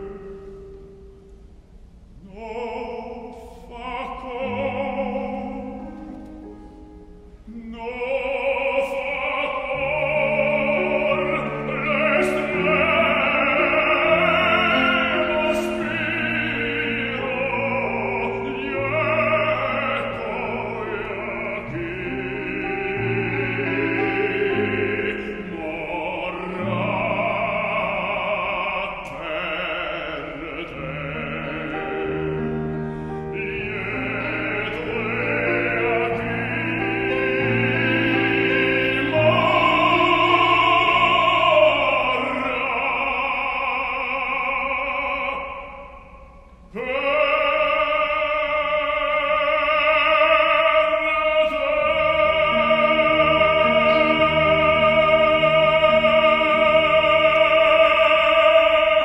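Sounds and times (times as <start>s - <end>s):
baritone singing opera: 0.0s - 0.6s, 2.2s - 6.5s, 7.5s - 59.0s
piano accompaniment: 3.8s - 45.4s, 47.0s - 59.0s.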